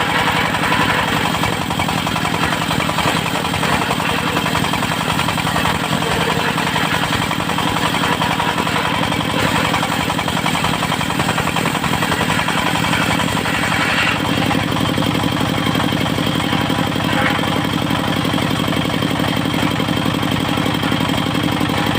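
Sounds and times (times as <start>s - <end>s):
saw rig engine running with knock: 0.0s - 21.9s.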